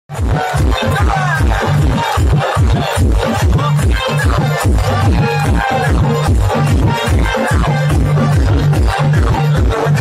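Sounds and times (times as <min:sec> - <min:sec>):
pop song with electronic bass: 0:00.1 - 0:10.0.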